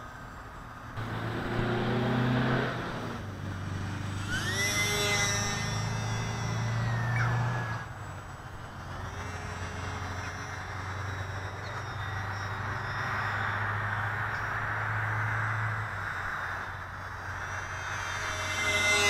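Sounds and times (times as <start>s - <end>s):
electric motor and propeller whine: 0.0s - 19.0s
steady low hum: 0.0s - 19.0s.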